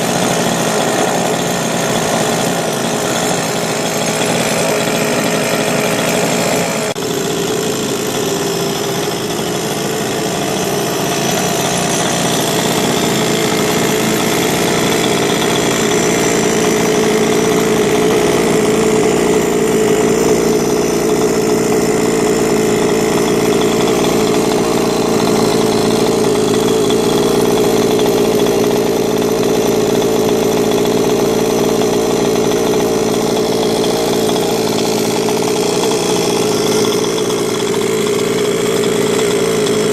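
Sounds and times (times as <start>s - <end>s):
two-stroke engine idling: 0.0s - 39.9s.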